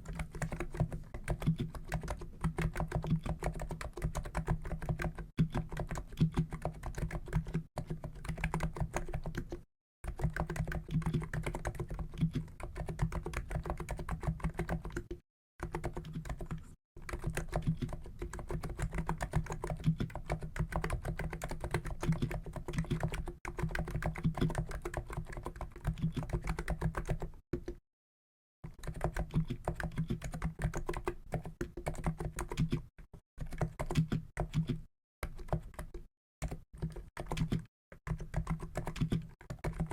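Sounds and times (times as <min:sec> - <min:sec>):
keyboard typing: 0:00.0 - 0:27.8, 0:28.6 - 0:39.9.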